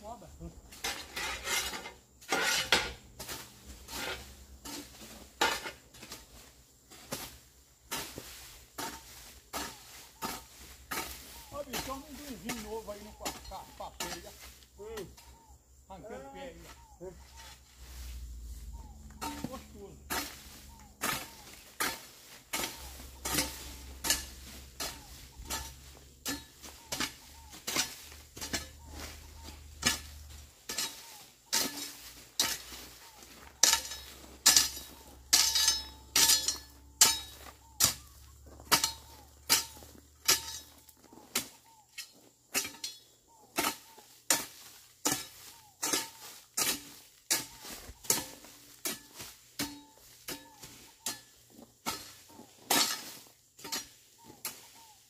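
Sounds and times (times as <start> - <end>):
metal hoe chopping into soil: 0.7 - 15.4, 18.8 - 55.0.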